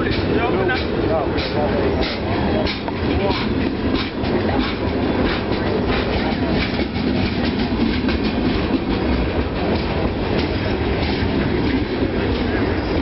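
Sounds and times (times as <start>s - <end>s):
train rumble: 0.0s - 13.0s
train wheels clicking over rail joints: 0.0s - 13.0s.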